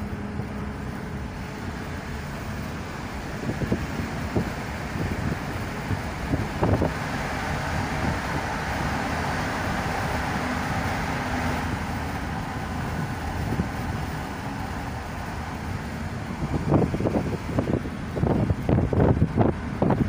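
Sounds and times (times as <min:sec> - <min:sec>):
car road noise from cabin: 0:00.0 - 0:20.0.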